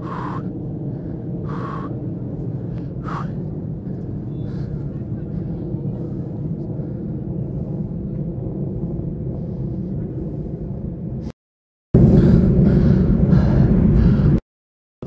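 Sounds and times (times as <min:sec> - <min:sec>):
wind: 0:00.0 - 0:11.4, 0:12.0 - 0:14.4.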